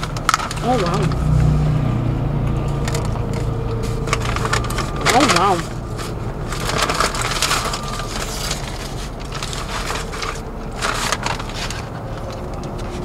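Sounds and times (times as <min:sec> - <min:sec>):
plastic packet being opened: 0:00.0 - 0:01.5, 0:02.7 - 0:13.0
paper wrapper crinkling: 0:00.0 - 0:01.6, 0:02.6 - 0:13.0.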